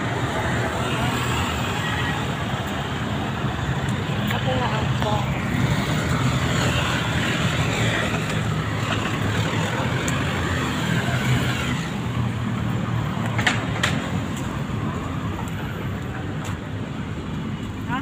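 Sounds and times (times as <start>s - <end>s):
passing traffic: 0.0s - 18.0s.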